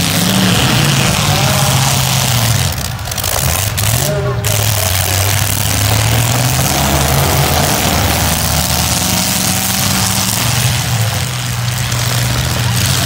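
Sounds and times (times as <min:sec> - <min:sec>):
car engines running hard: 0:00.0 - 0:13.0.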